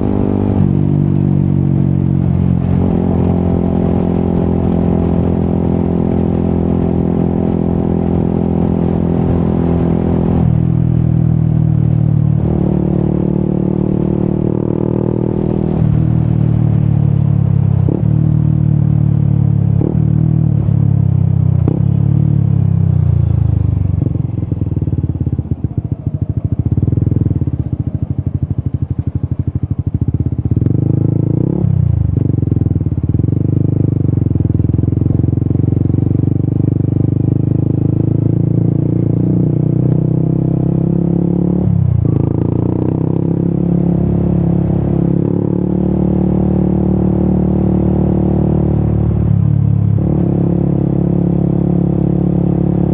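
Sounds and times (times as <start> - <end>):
motorcycle engine while riding: 0.0 - 52.9.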